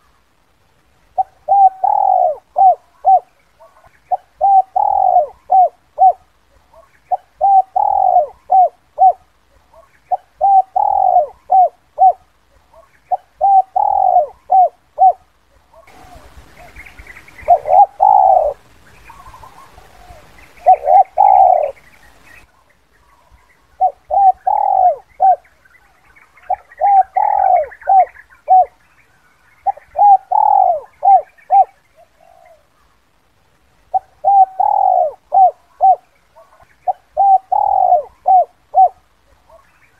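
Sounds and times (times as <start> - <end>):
light hiss: 0.0 - 39.9
dove cooing: 1.1 - 28.8, 29.6 - 33.0, 33.9 - 39.9.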